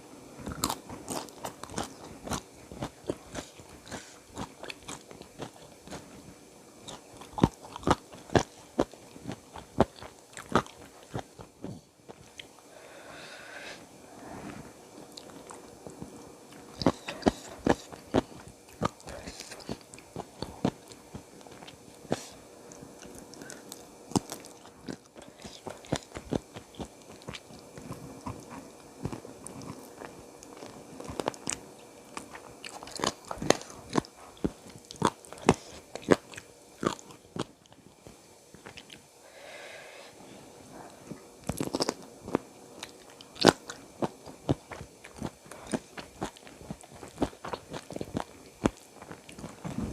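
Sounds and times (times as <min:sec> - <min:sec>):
person chewing crunchy food: 0:00.4 - 0:12.6, 0:14.2 - 0:39.1, 0:40.7 - 0:49.9.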